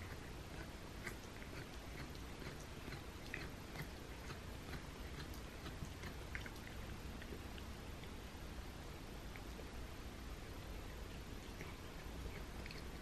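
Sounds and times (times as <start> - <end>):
cat chewing grass: 0.0 - 8.3, 10.6 - 13.0
low background hum: 0.0 - 13.0.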